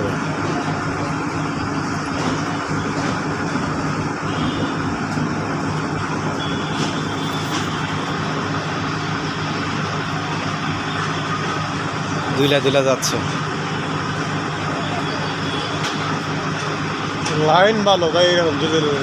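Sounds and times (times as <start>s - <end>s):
diesel train engine drone: 0.0s - 19.0s
wheels rumbling on track: 0.0s - 19.0s.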